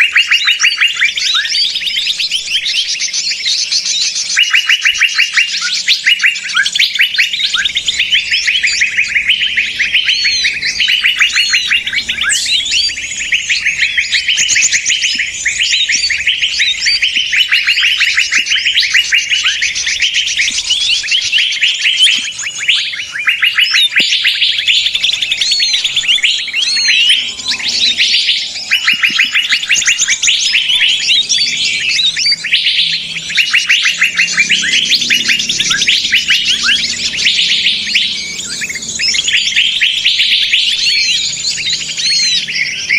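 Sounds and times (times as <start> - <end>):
songbirds chattering and chirping: 0.0 - 42.9.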